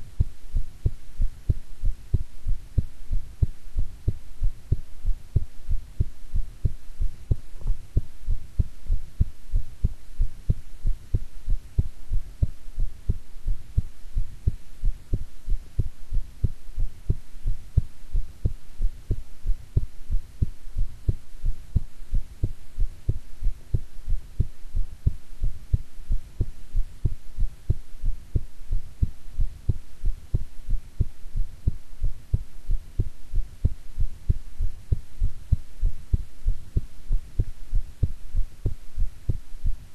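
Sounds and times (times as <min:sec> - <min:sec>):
faint steady hum: 0:00.0 - 0:39.9
heartbeat thuds: 0:00.0 - 0:39.9.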